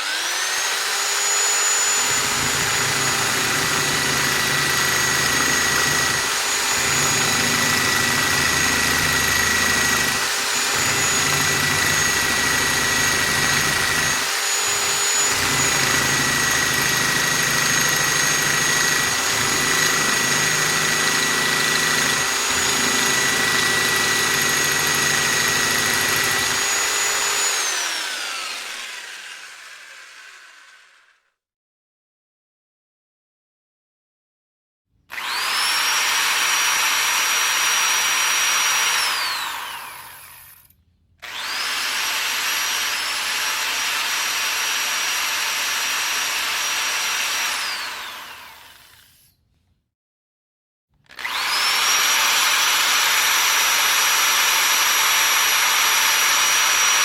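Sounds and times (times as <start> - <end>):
electric drill whining: 0.0 - 31.3, 35.1 - 49.5, 51.1 - 57.0.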